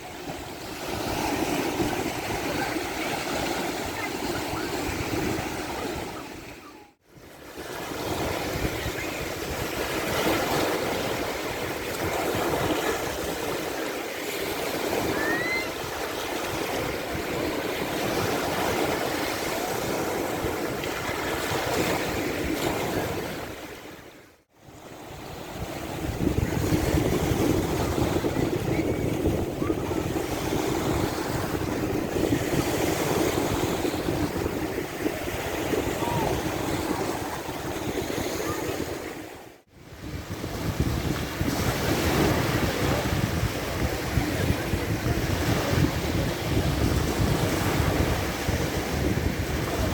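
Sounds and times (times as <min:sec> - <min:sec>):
sea waves washing onto beach: 0:00.0 - 0:49.9.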